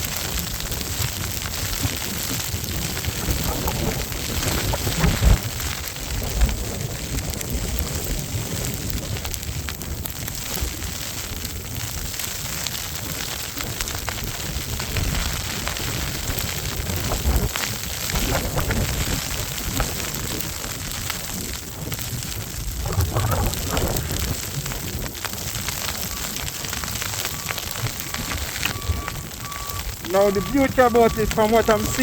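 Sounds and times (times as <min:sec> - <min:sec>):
wind buffeting microphone: 0:00.1 - 0:11.2, 0:13.6 - 0:32.0.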